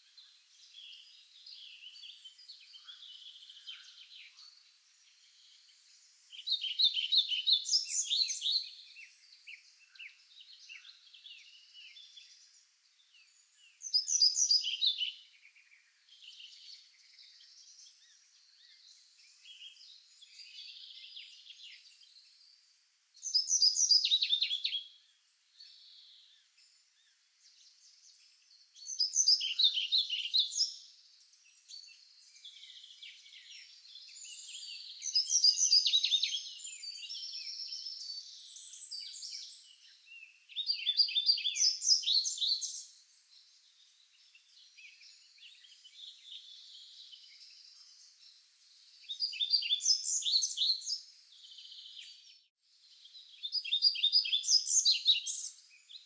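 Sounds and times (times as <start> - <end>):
faint bird chirping: 0.0 - 56.0
bird trilled song: 6.3 - 12.6, 13.2 - 22.2, 23.2 - 25.0, 25.6 - 30.9, 31.5 - 56.0.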